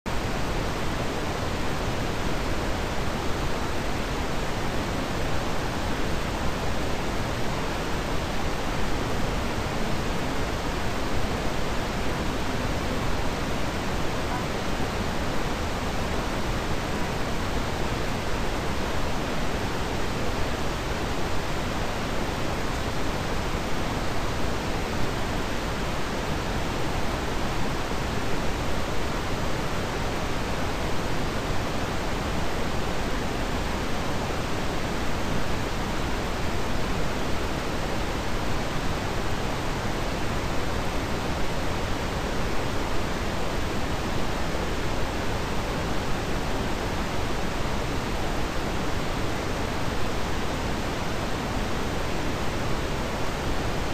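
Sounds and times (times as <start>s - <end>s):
steady static hiss: 0.1s - 53.9s.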